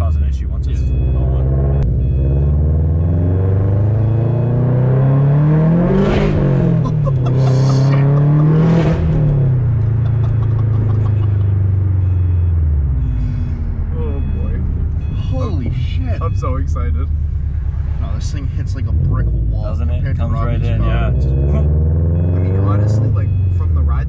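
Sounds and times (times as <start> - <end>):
car engine revving through gears: 0.7 - 24.0.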